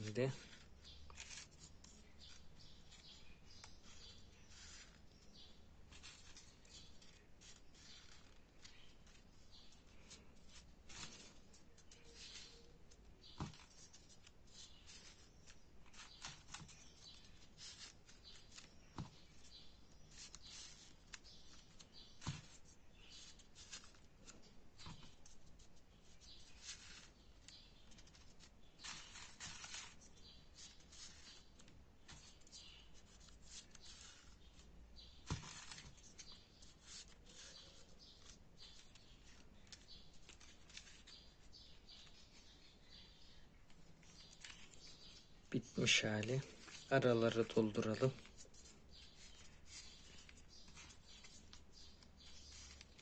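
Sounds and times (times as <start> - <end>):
paper rustling and crinkling: 0.0 - 53.0.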